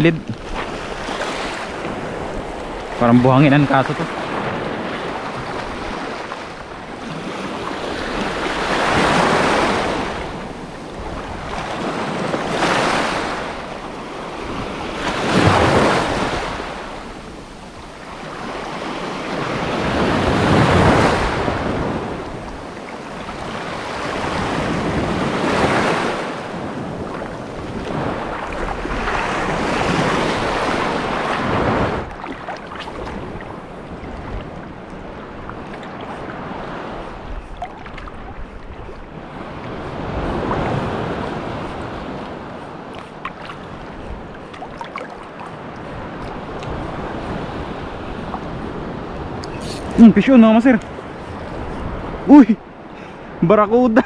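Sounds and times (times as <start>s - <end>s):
wind buffeting microphone: 0.0s - 53.5s
sea waves washing in: 0.0s - 54.0s.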